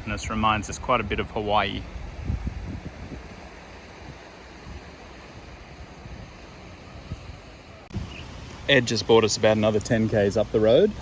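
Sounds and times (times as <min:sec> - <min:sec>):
sea surf: 0:00.0 - 0:11.0
wind on microphone: 0:00.0 - 0:11.0.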